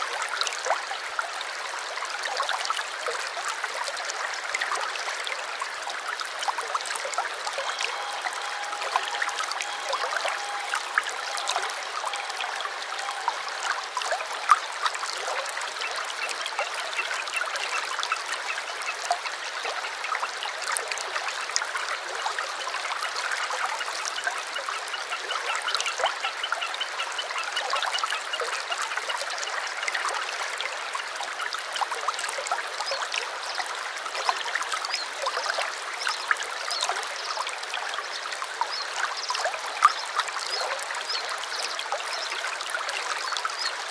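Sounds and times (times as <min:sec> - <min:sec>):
stream trickling and splashing: 0:00.0 - 0:43.9.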